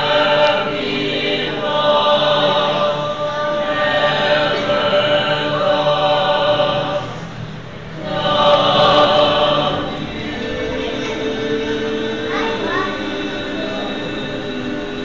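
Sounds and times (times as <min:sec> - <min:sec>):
choir singing a hymn: 0:00.0 - 0:15.0.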